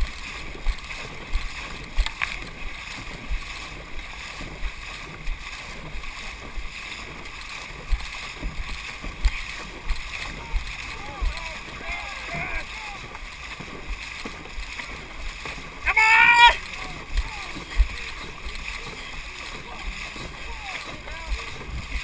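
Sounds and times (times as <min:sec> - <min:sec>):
drum beating steady rhythm: 0:00.0 - 0:22.0
paddles splashing in water: 0:00.0 - 0:22.0.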